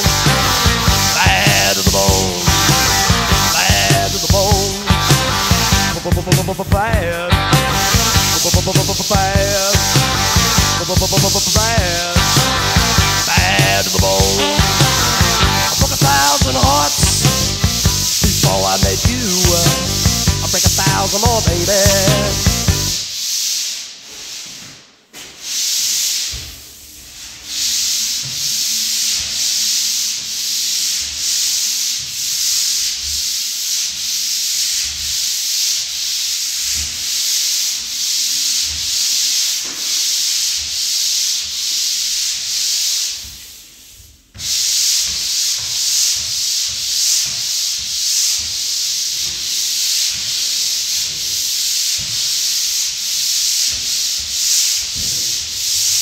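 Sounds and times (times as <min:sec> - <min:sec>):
pole sander rasping on ceiling: 0:00.0 - 0:56.0.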